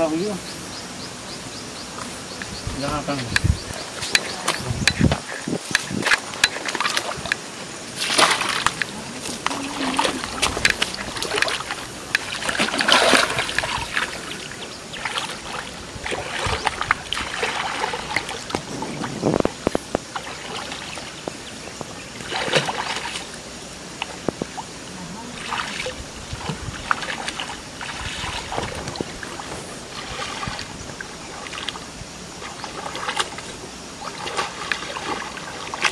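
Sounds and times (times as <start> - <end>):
water sloshing and splashing: 2.0 - 35.9.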